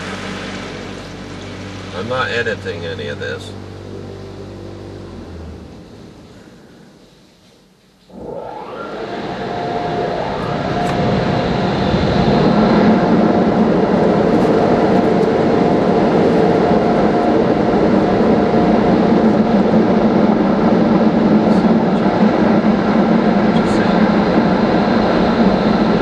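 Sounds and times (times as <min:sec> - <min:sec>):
car wash air blowers rushing: 0:00.0 - 0:07.0, 0:08.1 - 0:26.0
faint whine: 0:00.0 - 0:26.0.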